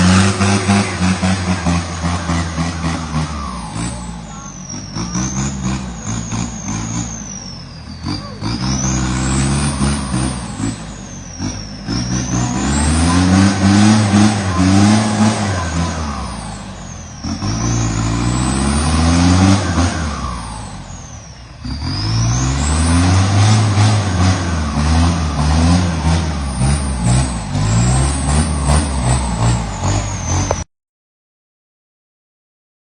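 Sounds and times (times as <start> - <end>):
truck engine revving: 0.0 - 30.7.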